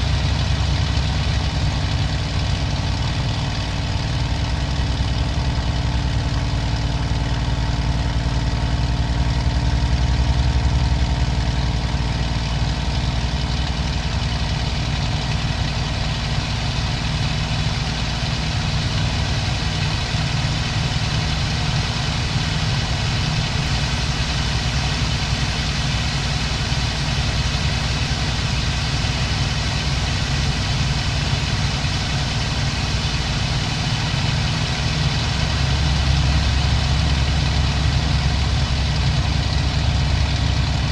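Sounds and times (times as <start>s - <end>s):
aircraft engine droning: 0.0s - 40.9s.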